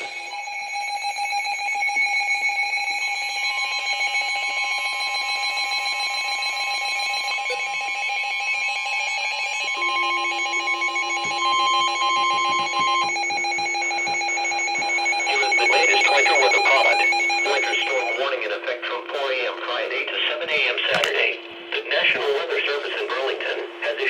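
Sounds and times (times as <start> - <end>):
rapidly pulsing electronic alarm: 0.0 - 24.0
steady warning tone: 0.0 - 24.0.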